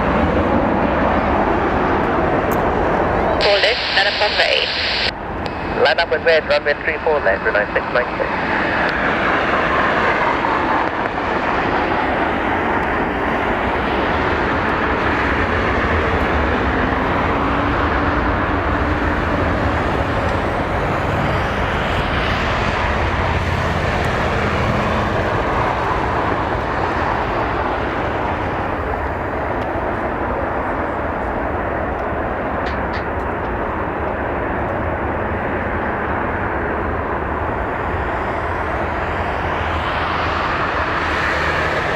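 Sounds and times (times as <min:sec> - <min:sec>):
jet engine rumble: 0:00.0 - 0:41.9.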